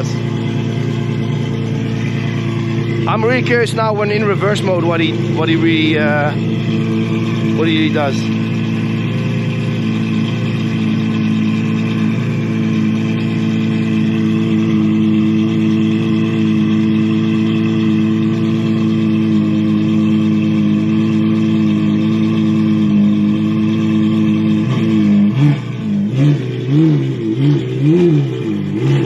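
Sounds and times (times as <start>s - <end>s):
sports car engine idling: 0.0s - 29.0s.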